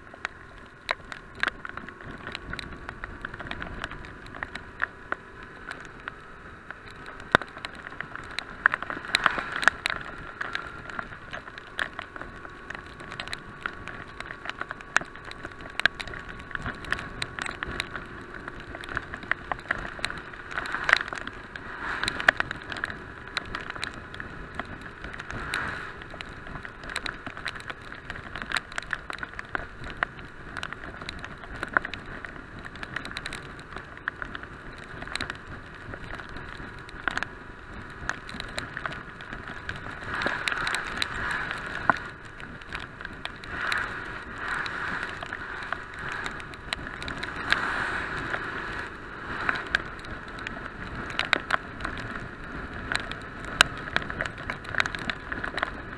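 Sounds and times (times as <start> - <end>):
raindrops tapping on camera: 0.0 - 55.9
wind and wet road noise: 0.0 - 55.9.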